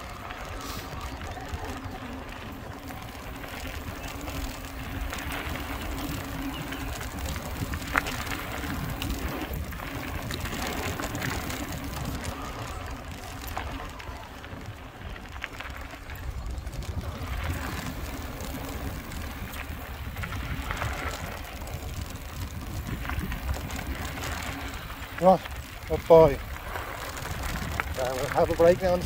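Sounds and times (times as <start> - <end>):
bike tyres crunching on gravel: 0.0 - 29.0.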